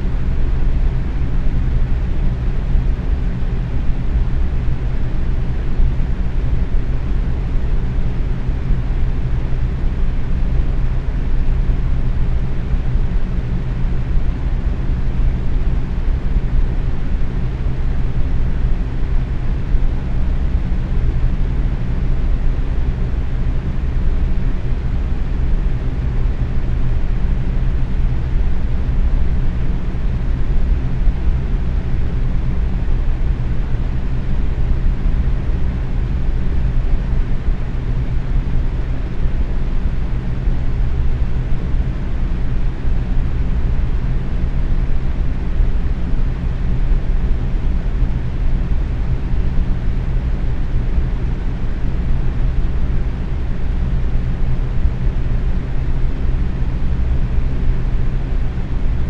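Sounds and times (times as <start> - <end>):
box fan running: 0.0 - 59.0.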